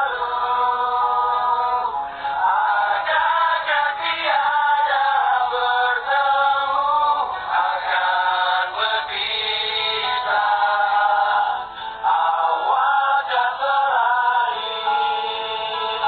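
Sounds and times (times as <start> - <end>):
person singing over music: 0.0 - 16.0.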